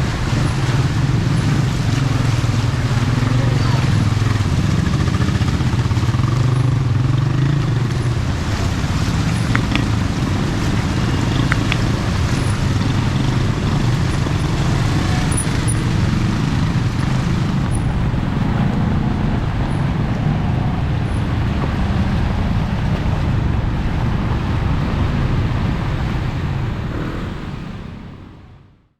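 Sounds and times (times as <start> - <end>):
street traffic rumble: 0.0 - 28.9.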